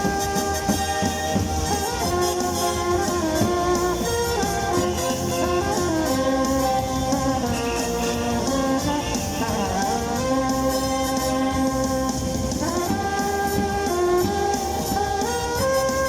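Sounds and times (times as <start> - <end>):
live band music: 0.0 - 16.0
sliding melody line: 0.0 - 16.0.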